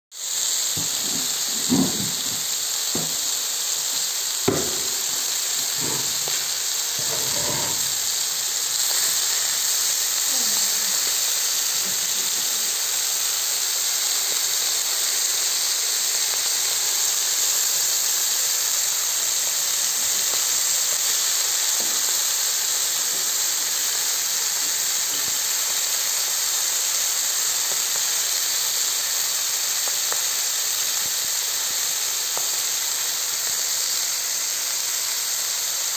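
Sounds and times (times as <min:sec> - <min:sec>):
sausages sizzling on a griddle: 0:00.1 - 0:35.9.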